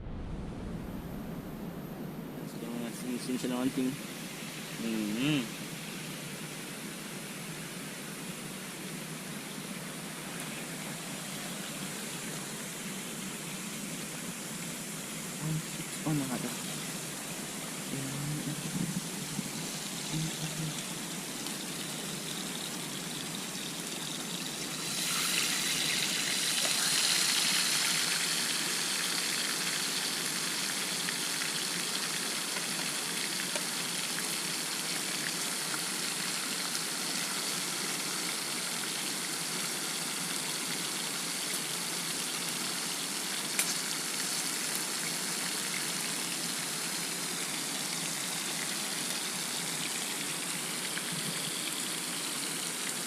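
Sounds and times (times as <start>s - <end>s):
flowing water rushing: 0.6s - 53.0s.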